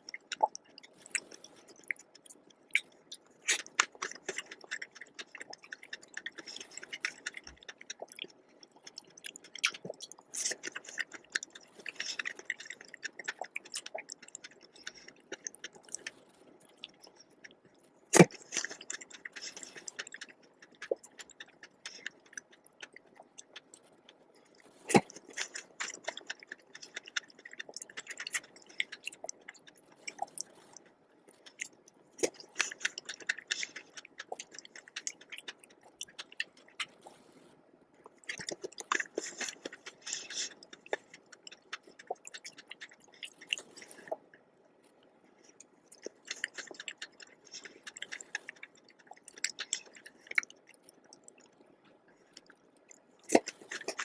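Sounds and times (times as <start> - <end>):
person chewing: 0.0 - 54.0.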